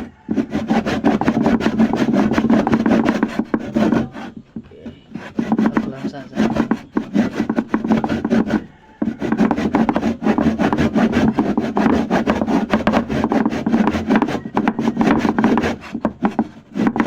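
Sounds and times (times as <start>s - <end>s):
hand saw cutting: 0.0s - 17.0s.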